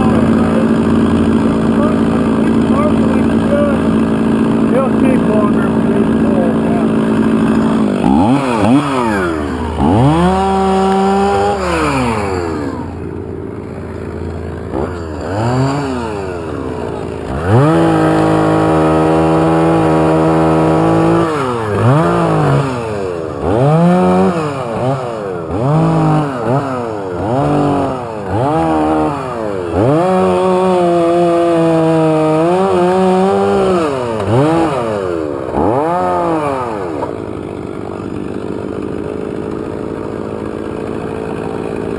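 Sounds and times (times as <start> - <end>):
chainsaw revving: 0.0 - 41.9.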